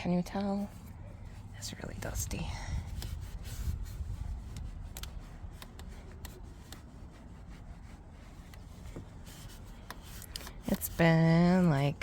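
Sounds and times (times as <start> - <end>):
low steady rumble: 0.0 - 12.0
towel rubbing dashboard: 0.0 - 12.0.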